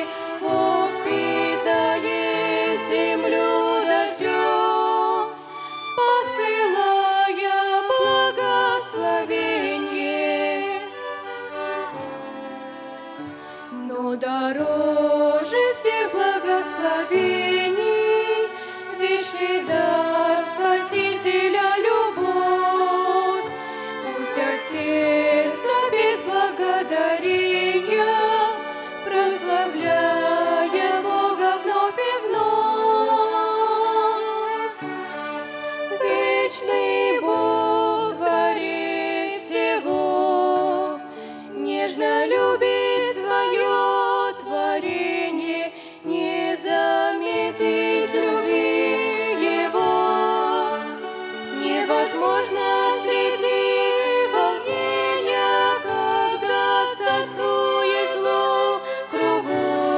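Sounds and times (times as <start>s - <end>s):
violin ensemble playing a hymn: 0.0s - 59.9s.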